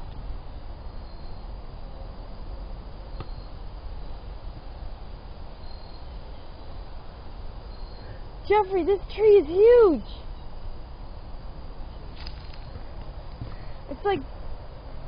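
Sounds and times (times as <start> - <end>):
insect chirps: 0.0 - 15.0.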